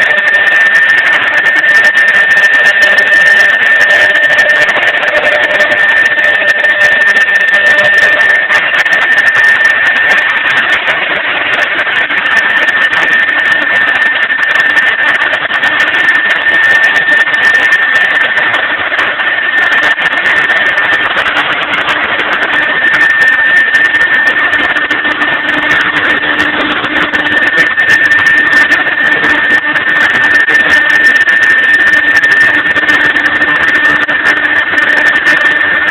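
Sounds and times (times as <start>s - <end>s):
high-pitched whine: 0.0s - 35.9s
router machine running: 0.0s - 35.9s.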